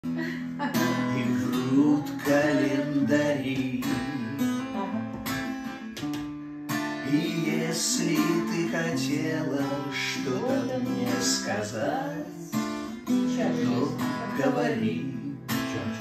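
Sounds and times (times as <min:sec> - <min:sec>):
acoustic guitar strumming chords: 0:00.1 - 0:16.0.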